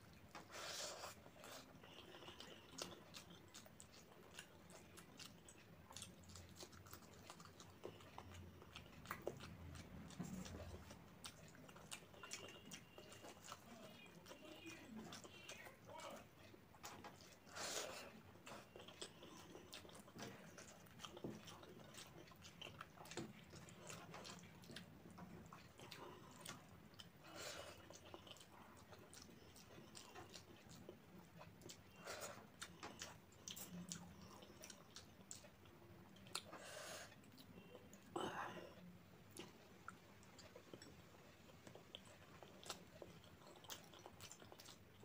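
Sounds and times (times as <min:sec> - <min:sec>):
chewing: 0:00.0 - 0:45.0.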